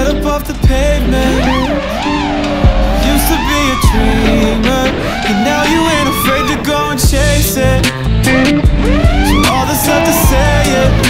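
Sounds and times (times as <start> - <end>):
song with steady beat: 0.0 - 6.0, 6.6 - 11.0.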